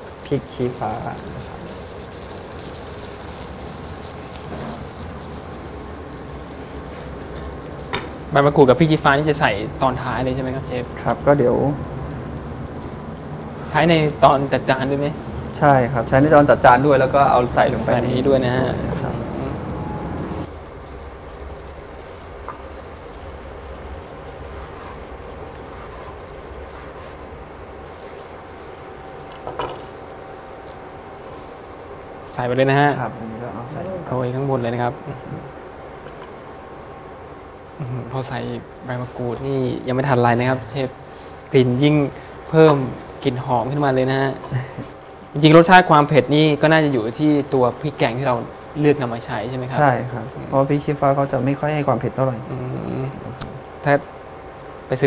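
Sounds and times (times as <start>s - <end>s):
fish sizzling in a frying pan: 0.0s - 18.8s, 20.4s - 55.0s.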